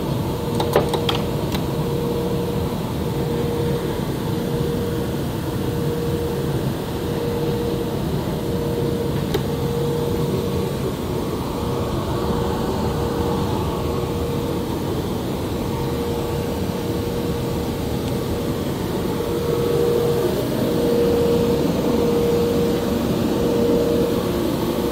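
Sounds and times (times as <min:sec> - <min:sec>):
cutting machine hum: 0:00.0 - 0:24.9
thin machine whine: 0:00.0 - 0:24.9.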